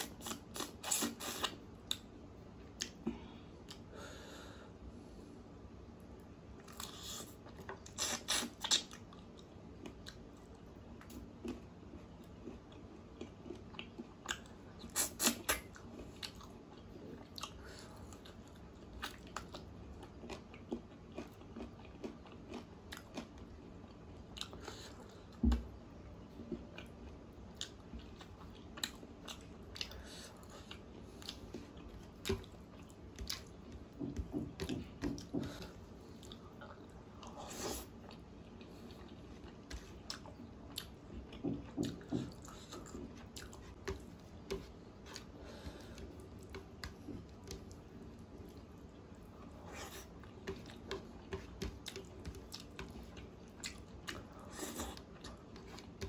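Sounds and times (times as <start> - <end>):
chewing with wet mouth clicks: 6.6 - 23.5, 26.5 - 37.4, 38.0 - 49.4, 50.0 - 56.0.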